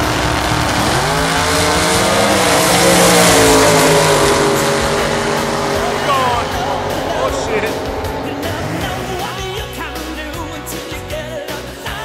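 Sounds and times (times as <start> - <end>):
race car engine roaring: 0.0 - 12.0.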